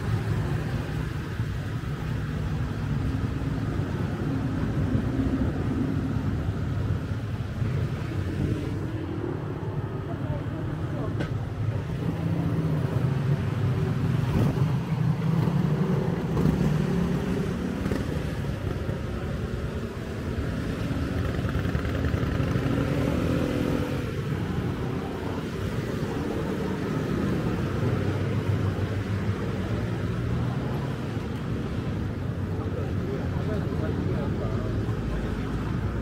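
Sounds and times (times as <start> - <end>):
cars and motorcycles passing: 0.0 - 36.0
city street background: 0.0 - 36.0.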